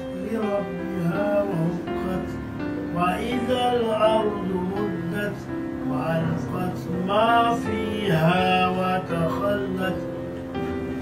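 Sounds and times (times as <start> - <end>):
man singing slow melody: 0.0 - 11.0.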